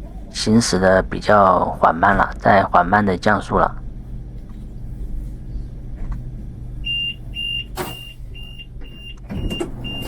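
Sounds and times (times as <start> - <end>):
train carriage humming: 0.0 - 10.0.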